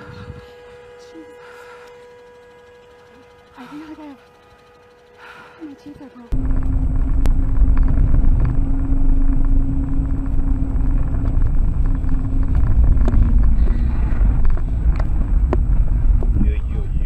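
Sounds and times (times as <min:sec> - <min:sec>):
faint steady hum: 0:00.0 - 0:17.0
road and engine rumble: 0:02.9 - 0:17.0.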